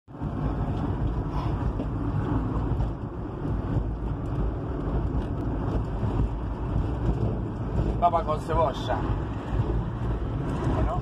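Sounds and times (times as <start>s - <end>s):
engine and road rumble: 0.0s - 11.0s
wind buffeting microphone: 0.1s - 11.0s.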